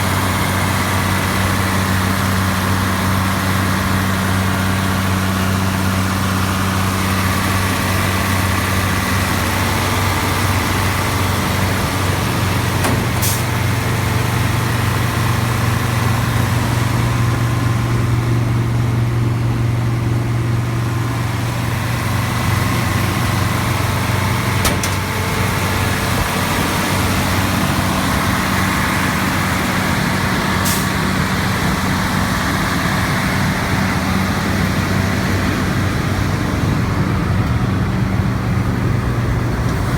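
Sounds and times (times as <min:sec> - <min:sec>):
combine harvester diesel idling: 0:00.0 - 0:39.9.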